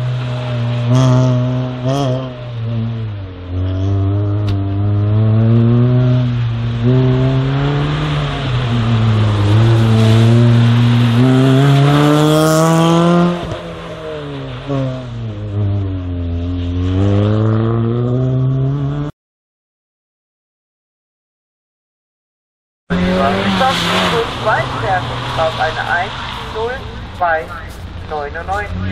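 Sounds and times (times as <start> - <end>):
car engine revving: 0.0 - 19.1, 22.9 - 28.9.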